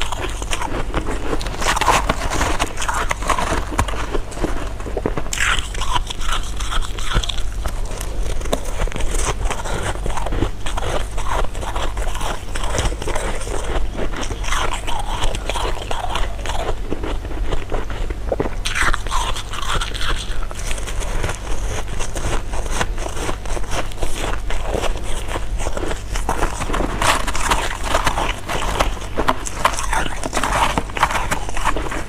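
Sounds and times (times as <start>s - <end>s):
crunchy candy being chewed: 0.0s - 32.0s.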